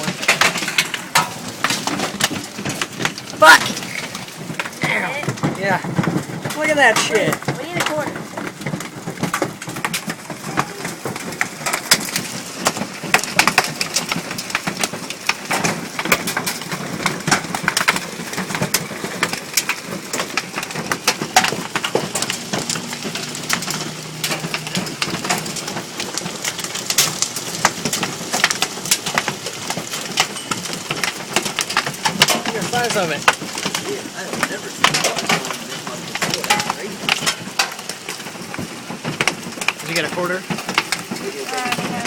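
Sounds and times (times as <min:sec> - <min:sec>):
hailstones pelting: 0:00.0 - 0:42.0.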